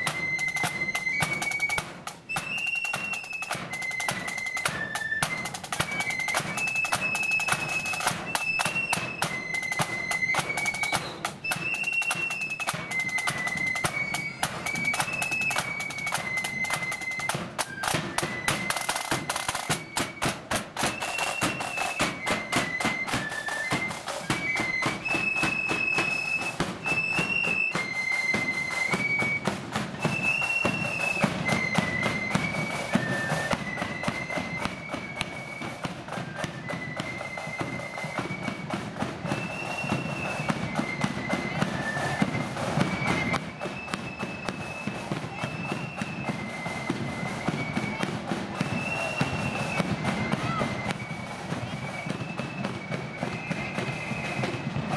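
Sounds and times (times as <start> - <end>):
rapid side drum rolls: 0.0 - 54.9
shrill flute melody: 0.0 - 54.9.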